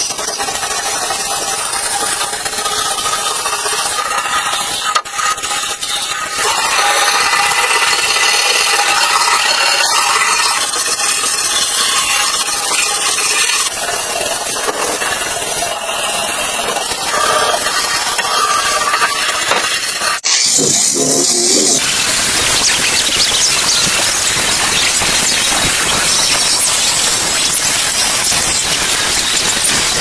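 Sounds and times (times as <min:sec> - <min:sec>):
harsh abrasive rubbing: 0:00.0 - 0:26.3.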